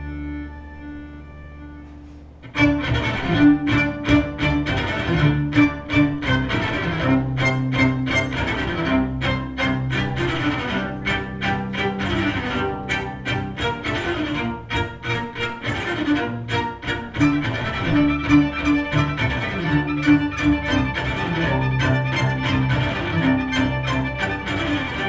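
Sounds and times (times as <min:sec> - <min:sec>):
string ensemble playing: 0:00.0 - 0:25.0.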